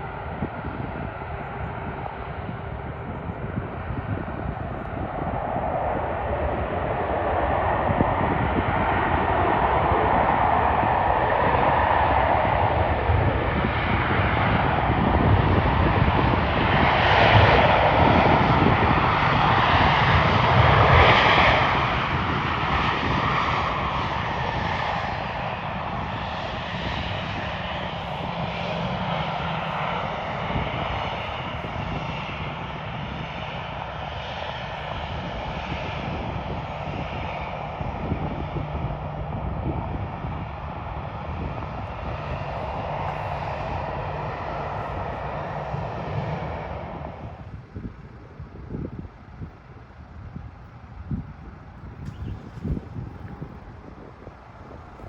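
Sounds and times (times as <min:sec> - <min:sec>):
jet airliner engines passing: 0:00.0 - 0:55.0.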